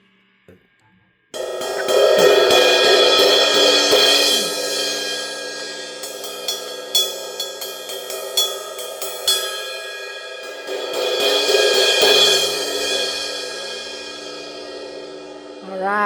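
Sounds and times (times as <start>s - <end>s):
crash cymbal struck and ringing: 1.4s - 15.7s.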